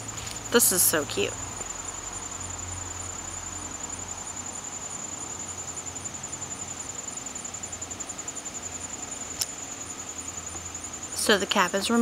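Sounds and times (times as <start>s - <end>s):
faint pulsing insect call: 0.0s - 12.0s
insect trilling: 0.0s - 12.0s.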